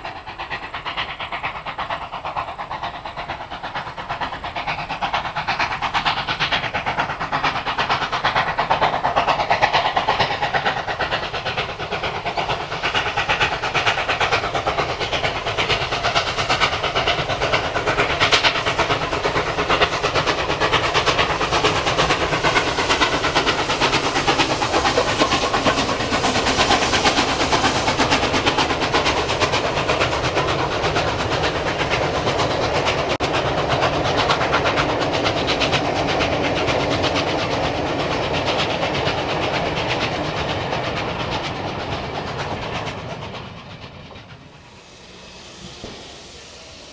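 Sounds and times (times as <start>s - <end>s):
steam locomotive exhaust beating: 0.0s - 46.9s.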